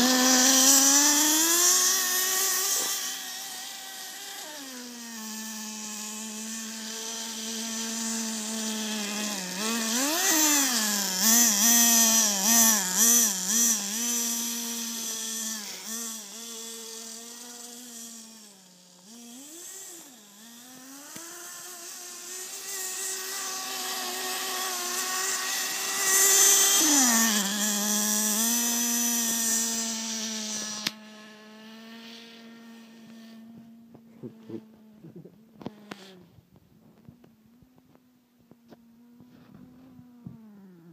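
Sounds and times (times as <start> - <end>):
small nitro engine revving: 0.0 - 40.9.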